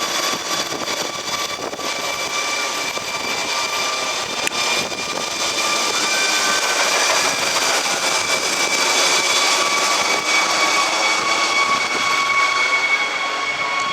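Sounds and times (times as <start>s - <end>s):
helicopter rotor rushing: 0.0s - 13.9s
helicopter turbine whine: 0.0s - 13.9s.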